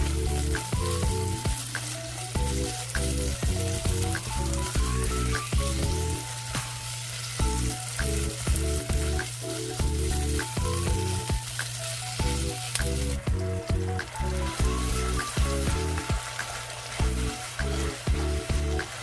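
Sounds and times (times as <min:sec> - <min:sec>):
background music with beat: 0:00.0 - 0:19.0
food sizzling in a pan: 0:00.0 - 0:19.0.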